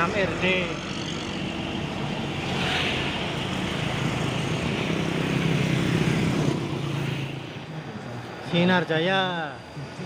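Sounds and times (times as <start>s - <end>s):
diesel engine drone: 0.0s - 10.0s.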